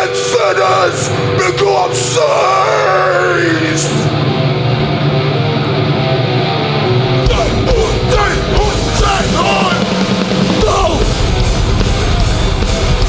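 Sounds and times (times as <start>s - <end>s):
distorted electric guitar: 0.0s - 13.0s
punk band playing live: 0.0s - 13.0s.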